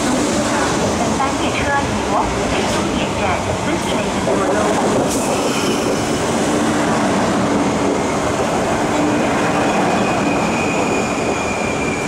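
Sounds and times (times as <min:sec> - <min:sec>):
high train whine: 0:00.0 - 0:12.0
train wheels rumbling on rail: 0:00.0 - 0:12.0.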